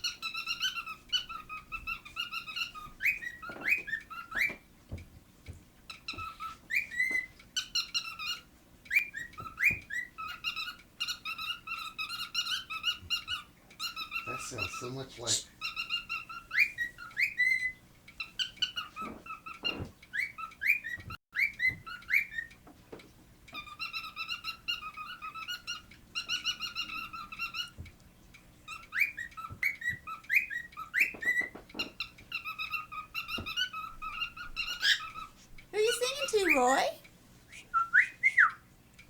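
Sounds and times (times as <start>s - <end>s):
cockatiel chirping and whistling: 0.0s - 4.6s, 6.1s - 14.8s, 15.6s - 22.5s, 23.6s - 27.8s, 28.7s - 36.9s.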